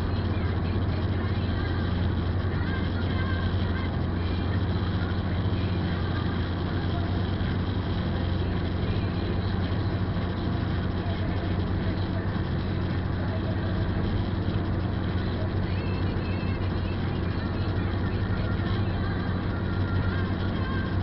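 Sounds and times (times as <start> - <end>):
car engine drone: 0.0 - 21.0
constant low hum: 0.0 - 21.0.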